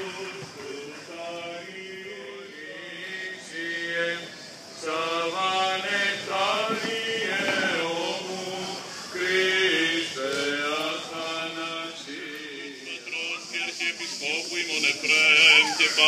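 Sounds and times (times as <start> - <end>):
man singing chant: 0.0 - 16.0.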